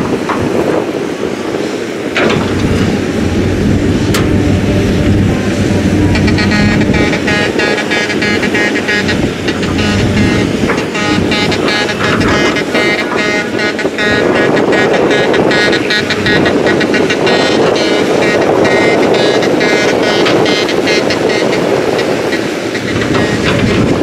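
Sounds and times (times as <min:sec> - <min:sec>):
excavator diesel engine under load: 0:00.0 - 0:24.0
high pulsing whine: 0:02.1 - 0:21.6.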